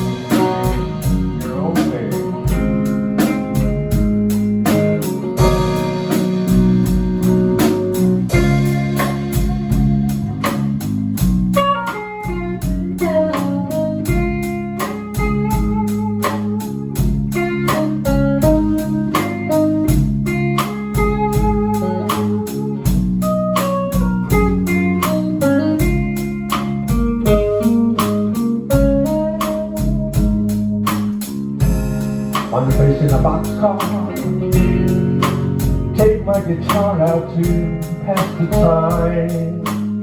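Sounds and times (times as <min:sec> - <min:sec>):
bass: 0:00.0 - 0:40.0
guitar lead melody: 0:00.0 - 0:40.0
steady beat: 0:00.0 - 0:40.0.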